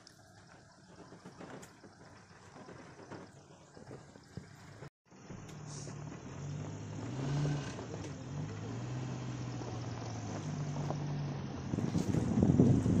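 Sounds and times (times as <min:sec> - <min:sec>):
jeep engine running: 0:00.0 - 0:13.0
rough crackling noise: 0:00.0 - 0:13.0.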